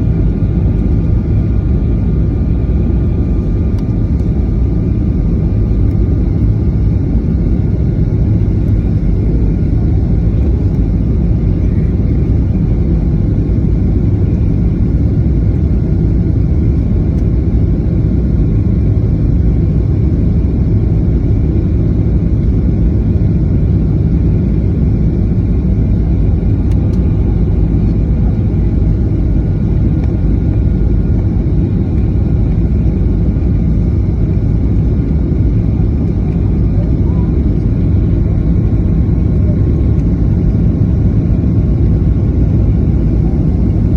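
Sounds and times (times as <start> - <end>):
faint engine tones: 0.0 - 15.9, 18.8 - 43.9
airplane cabin rumble: 0.0 - 43.9.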